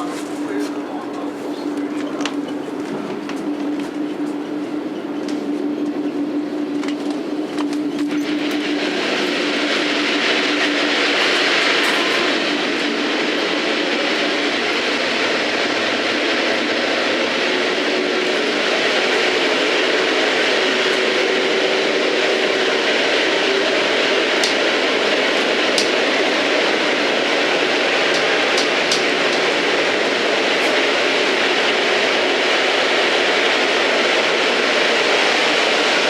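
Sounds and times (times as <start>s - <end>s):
train running on rails: 0.0s - 36.0s.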